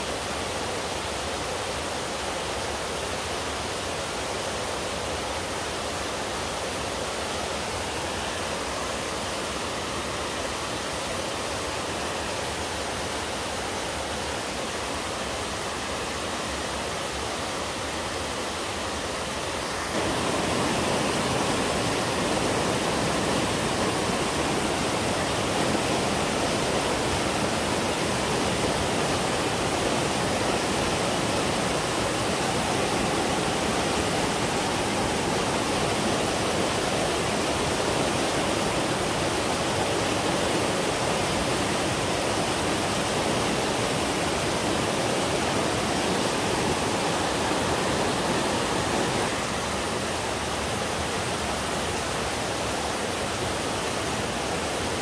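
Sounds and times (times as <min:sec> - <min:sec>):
stream rushing over boulders: 0:00.0 - 0:55.0.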